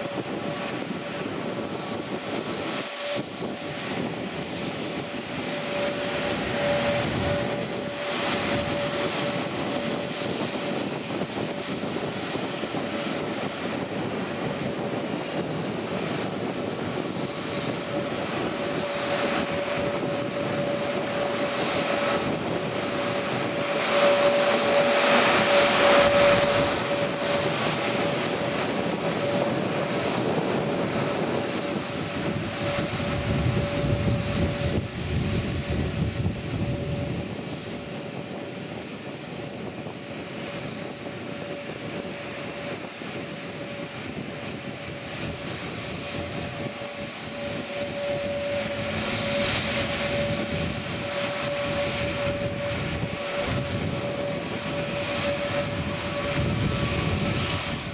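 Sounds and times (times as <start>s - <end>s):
jet engines rushing and whining: 0.0s - 57.9s.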